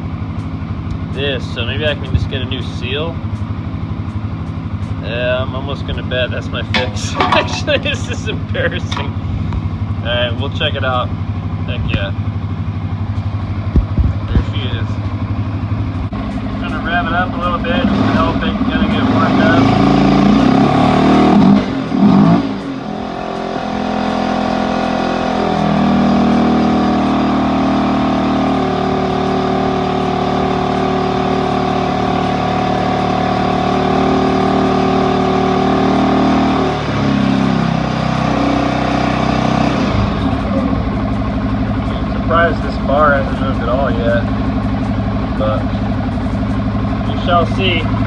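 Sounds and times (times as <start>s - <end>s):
engine revving: 0.8s - 48.0s.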